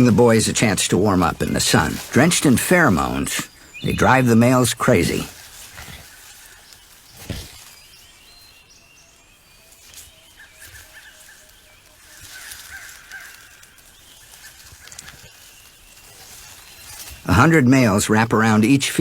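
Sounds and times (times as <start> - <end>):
birds calling in thin notes: 0.0 - 19.0.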